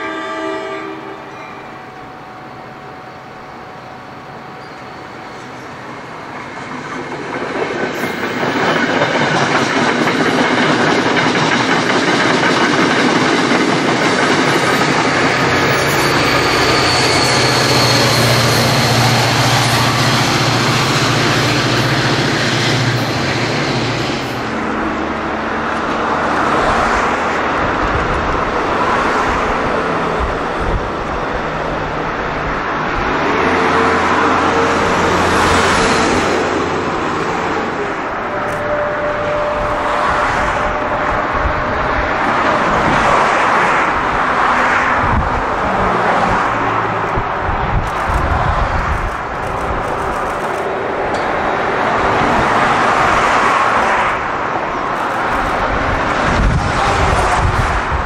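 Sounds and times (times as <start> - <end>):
train passing: 0.0 - 58.0.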